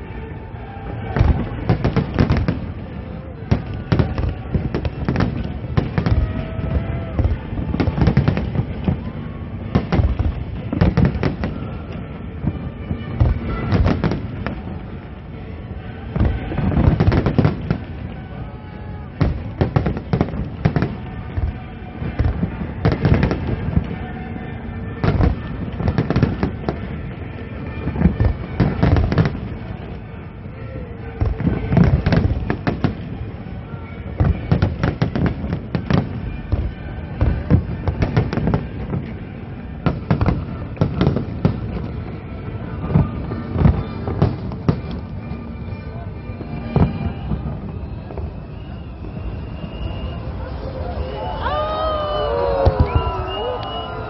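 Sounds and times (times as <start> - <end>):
faint music: 0.0 - 54.0
fireworks bursting: 0.0 - 54.0
voices: 0.0 - 54.0.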